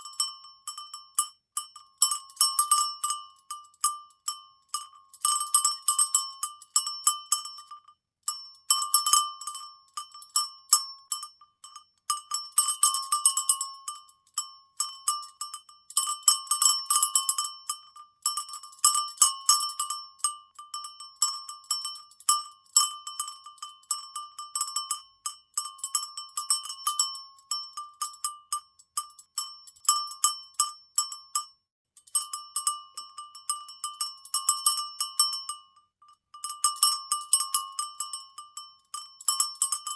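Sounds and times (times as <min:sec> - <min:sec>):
cowbell clanking: 0:00.0 - 0:39.9.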